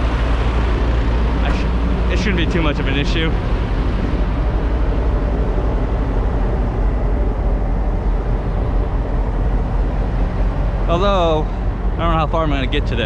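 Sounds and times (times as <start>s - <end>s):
diesel engines droning: 0.0s - 13.0s.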